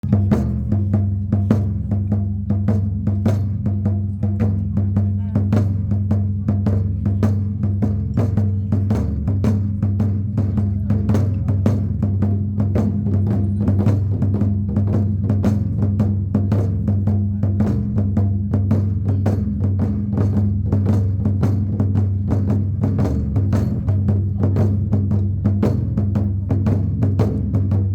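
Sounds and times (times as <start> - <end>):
low drum ringing: 0.0 - 27.9
rapid drum strikes: 0.0 - 27.9.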